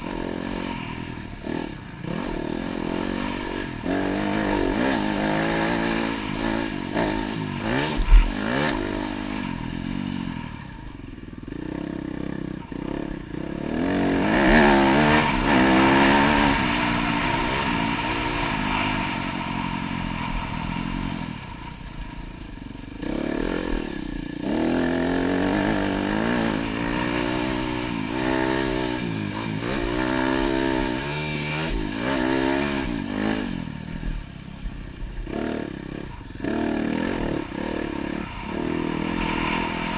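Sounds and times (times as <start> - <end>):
dirt bike engine revving: 0.0 - 34.3, 35.0 - 39.9.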